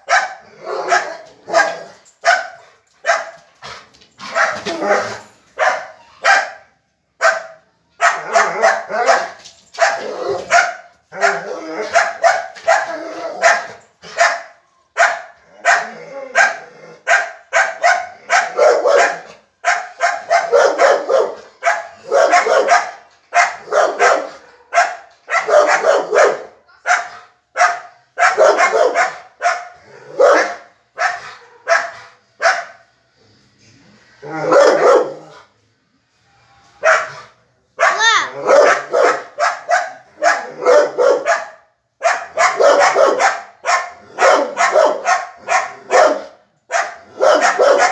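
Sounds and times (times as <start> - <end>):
dog barking and yelping: 0.0 - 6.6, 7.2 - 32.8, 34.4 - 35.3, 36.8 - 37.2, 37.8 - 47.9.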